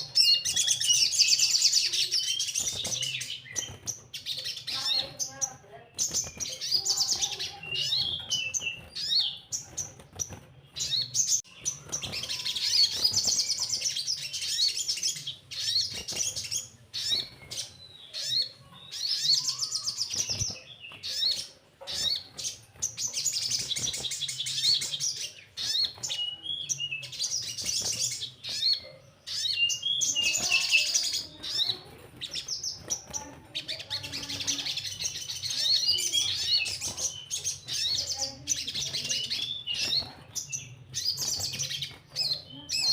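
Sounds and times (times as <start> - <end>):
small bird twittering trills: 0.0 - 42.9.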